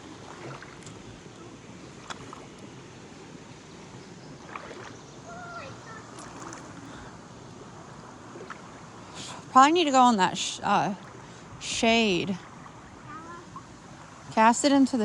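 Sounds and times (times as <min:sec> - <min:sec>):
flowing creek water: 0:00.0 - 0:15.0.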